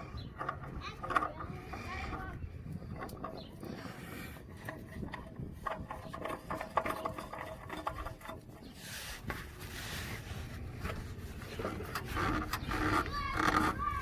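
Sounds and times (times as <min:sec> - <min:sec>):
oil filter rubbing and clicking: 0:00.0 - 0:14.0.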